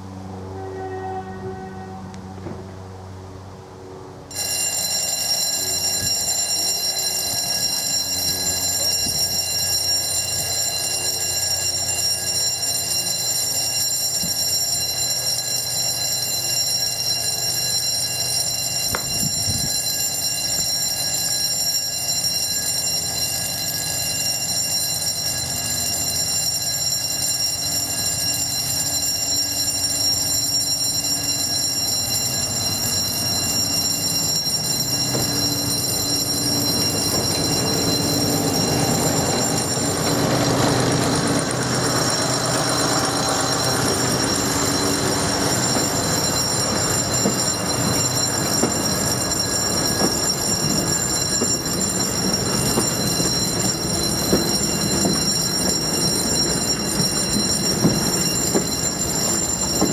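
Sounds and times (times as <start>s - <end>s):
level crossing warning bell: 4.3s - 59.9s.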